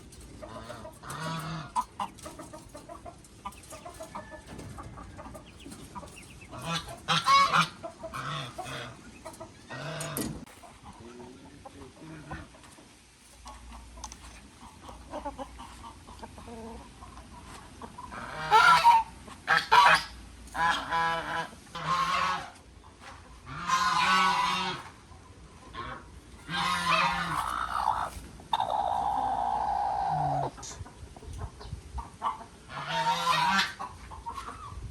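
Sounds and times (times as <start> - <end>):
waterfowl honking and quacking: 0.0 - 30.8, 31.4 - 34.8.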